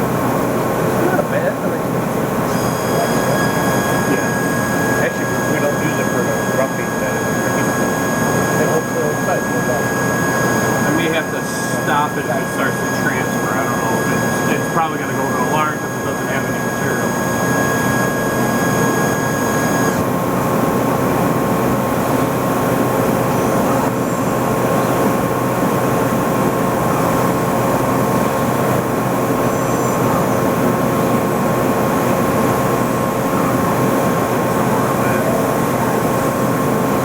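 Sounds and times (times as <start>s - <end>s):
higher machine tones: 0.0s - 37.0s
loud machinery noise with whine: 0.0s - 37.0s.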